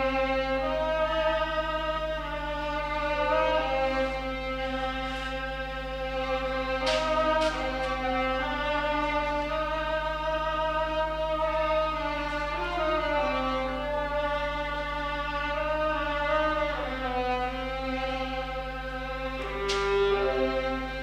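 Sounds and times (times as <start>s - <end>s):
solo violin slow melody: 0.0s - 21.0s.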